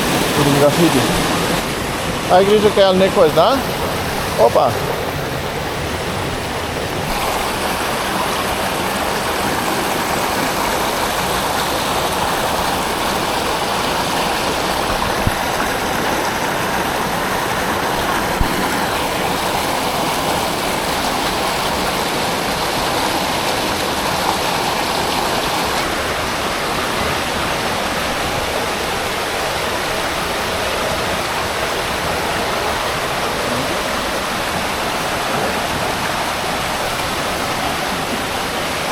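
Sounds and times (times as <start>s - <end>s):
creek rushing over waterfalls: 0.0s - 38.9s.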